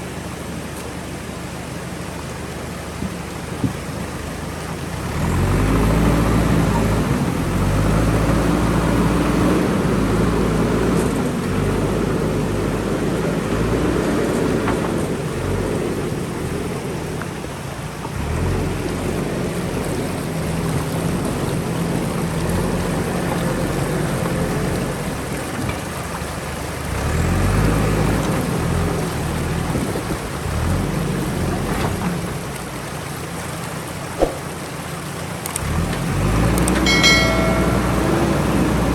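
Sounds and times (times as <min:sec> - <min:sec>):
diesel engine of backhoe loader: 0:00.0 - 0:38.9.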